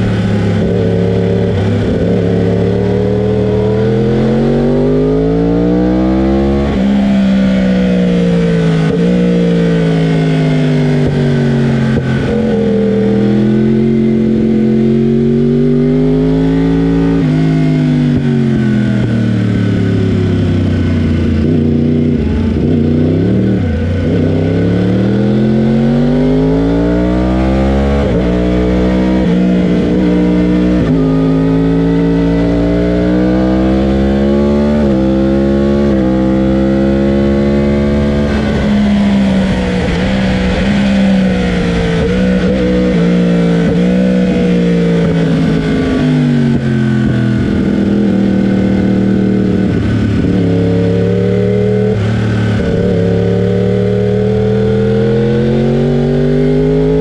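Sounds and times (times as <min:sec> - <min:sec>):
race motorcycle engine revving: 0:00.0 - 0:57.0.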